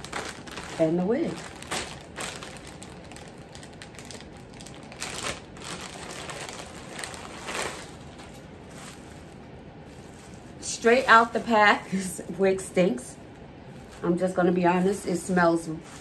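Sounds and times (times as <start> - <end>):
plastic bag crinkling: 0.0 - 12.4, 13.3 - 16.0.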